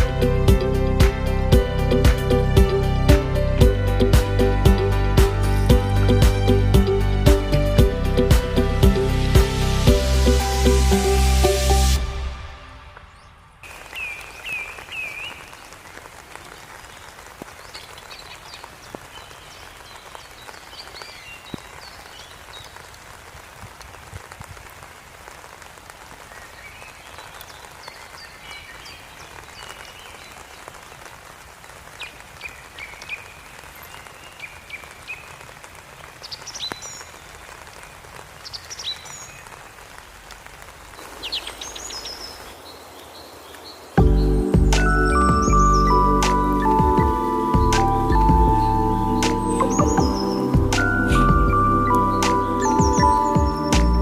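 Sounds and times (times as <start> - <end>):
steady hiss: 8.3 - 54.0.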